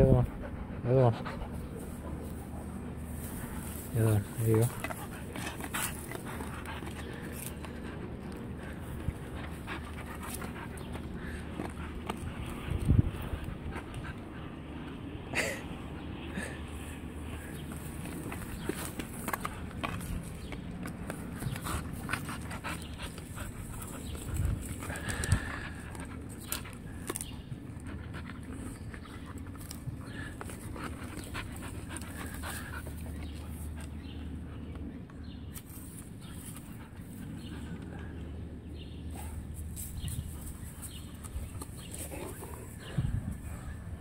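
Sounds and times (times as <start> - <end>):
dog panting: 0.0 - 34.9, 36.2 - 44.0
steady low rumble: 0.0 - 44.0
rustles: 1.1 - 15.0, 16.6 - 44.0.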